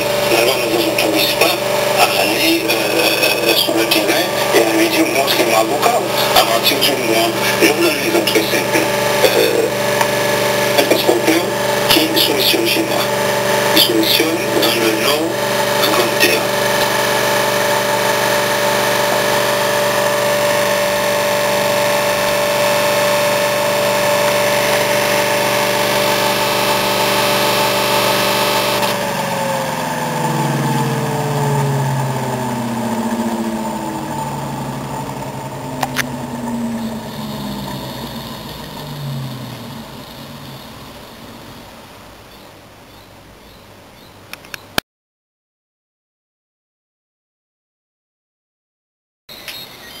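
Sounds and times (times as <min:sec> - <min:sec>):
electric motor whine and hum: 0:00.0 - 0:42.2.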